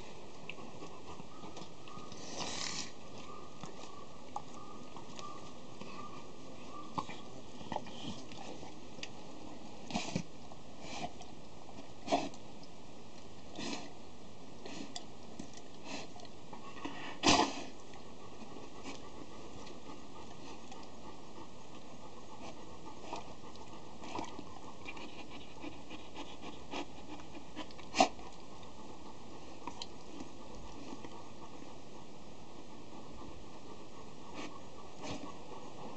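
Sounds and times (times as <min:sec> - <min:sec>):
puppy panting: 0:00.0 - 0:08.8, 0:15.5 - 0:35.9.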